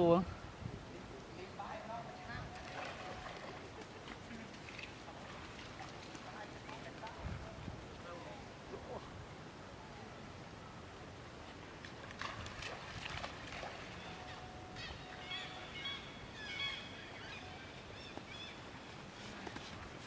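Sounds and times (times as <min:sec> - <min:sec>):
faint outdoor ambience: 0:00.0 - 0:20.0.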